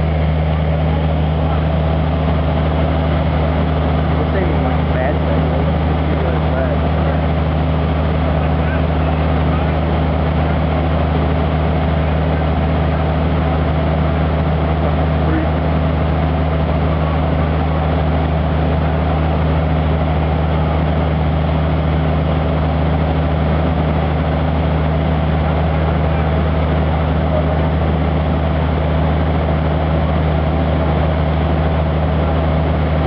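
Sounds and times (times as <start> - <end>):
fire truck engine droning: 0.0 - 33.0.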